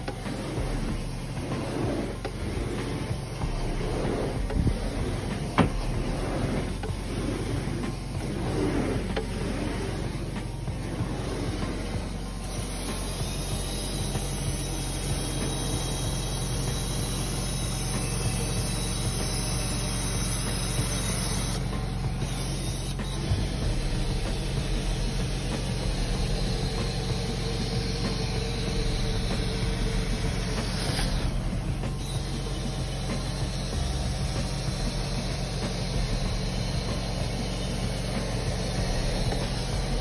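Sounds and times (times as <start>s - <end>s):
carpet extractor vacuum roar: 0.0s - 40.0s.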